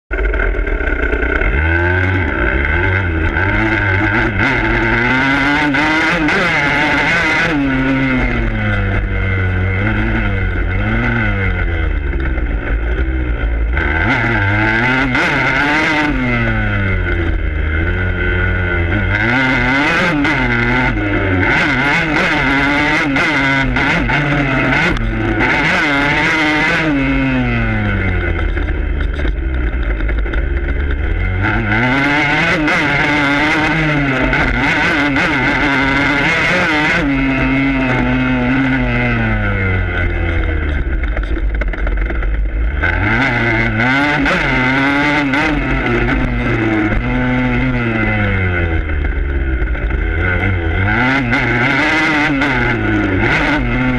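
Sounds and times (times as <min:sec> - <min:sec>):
dirt bike engine revving: 0:00.1 - 0:53.9.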